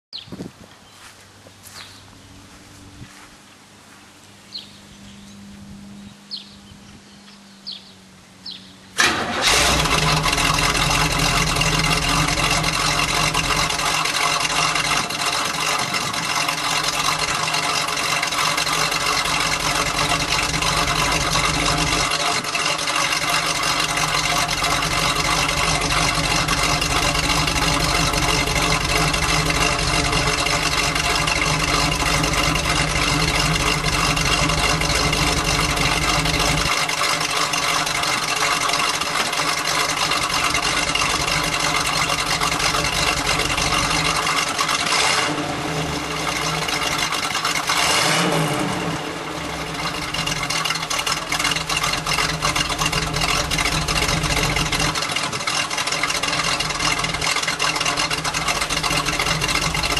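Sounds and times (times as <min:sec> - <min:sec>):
car engine starting and idling: 0:08.0 - 0:59.9.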